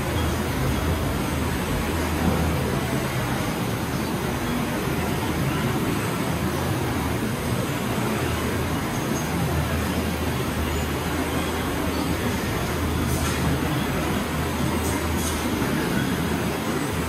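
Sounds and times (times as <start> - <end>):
conveyors and palletizer running: 0.0 - 17.0.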